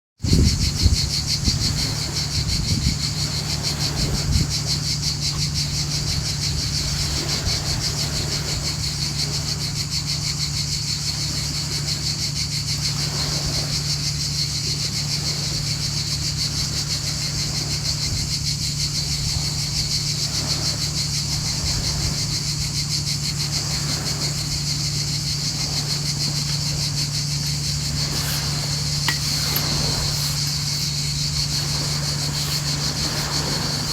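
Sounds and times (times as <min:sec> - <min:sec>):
sea waves washing in: 0:00.2 - 0:33.9
constant low hum: 0:00.3 - 0:33.9.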